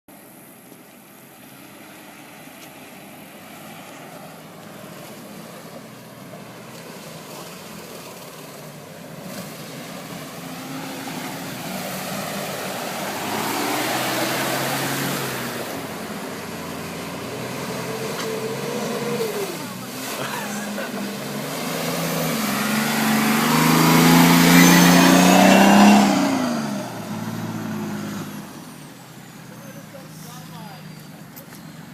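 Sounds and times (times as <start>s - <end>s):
water splashing: 0.8s - 31.9s
off-road vehicle engines revving: 1.7s - 31.9s.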